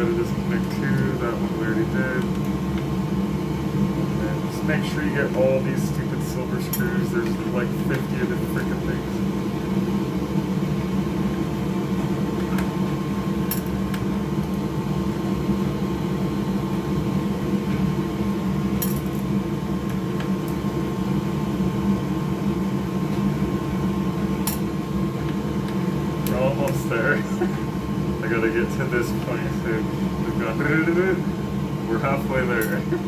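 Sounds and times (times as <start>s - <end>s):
fan motor humming: 0.0s - 33.0s.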